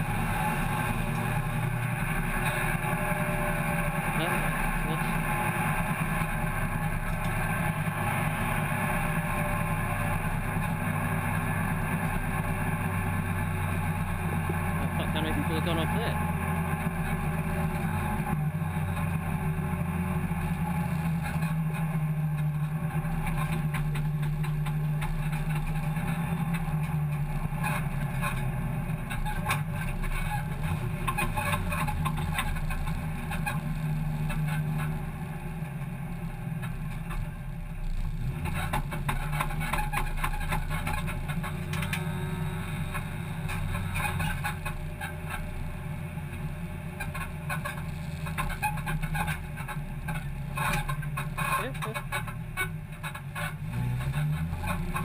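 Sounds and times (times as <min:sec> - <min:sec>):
car engine at low revs: 0:00.0 - 0:55.0.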